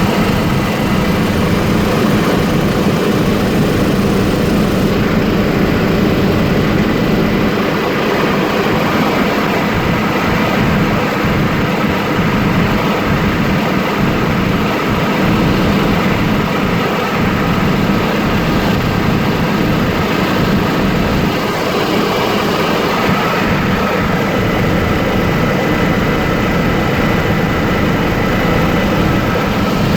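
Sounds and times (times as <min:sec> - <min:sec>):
helicopter engine and rotor: 0:00.0 - 0:29.9.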